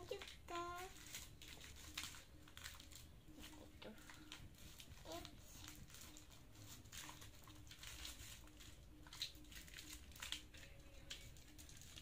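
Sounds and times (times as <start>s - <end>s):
plastic-wrapped packets rustling: 0.0s - 12.0s.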